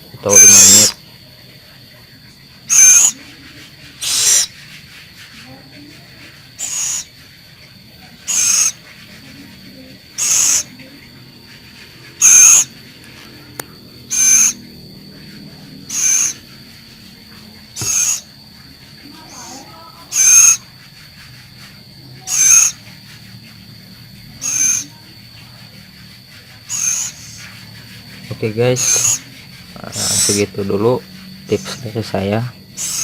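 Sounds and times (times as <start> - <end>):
owl raspy calls: 0.0 - 33.0.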